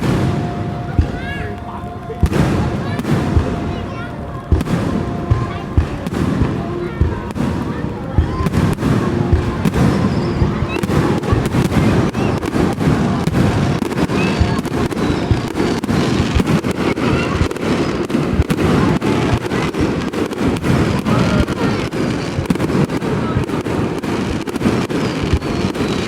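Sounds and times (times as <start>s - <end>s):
fireworks booms and cracks: 0.0s - 26.0s.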